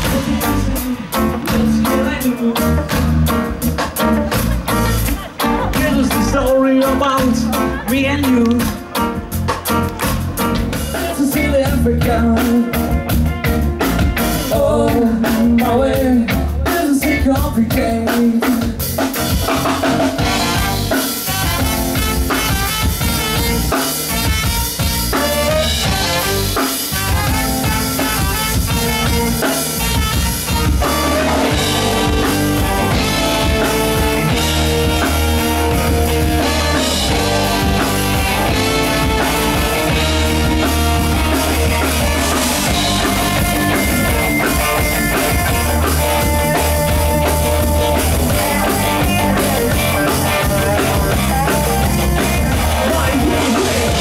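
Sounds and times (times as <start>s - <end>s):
live band playing: 0.0s - 54.0s.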